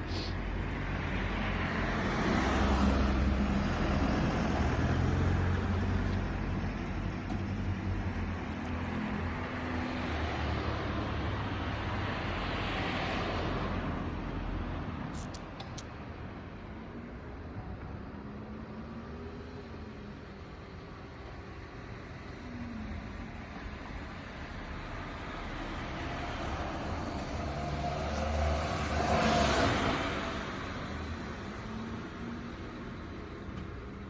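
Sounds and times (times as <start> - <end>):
cars passing: 0.0 - 16.6, 18.8 - 34.0.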